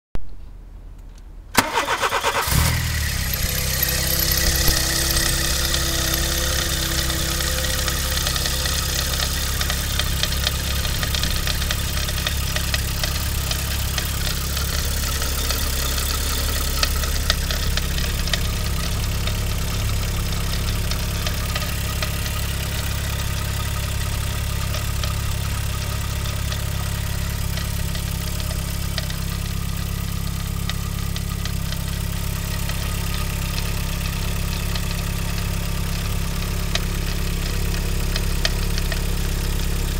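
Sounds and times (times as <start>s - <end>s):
engine cranking and starting: 1.6s - 39.3s
car engine idling: 1.6s - 39.9s
engine rattling and ticking: 1.6s - 39.9s.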